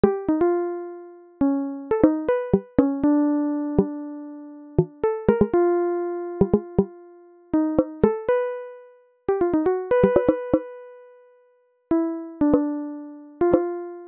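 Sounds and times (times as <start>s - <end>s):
slow keyboard melody: 0.0s - 14.0s.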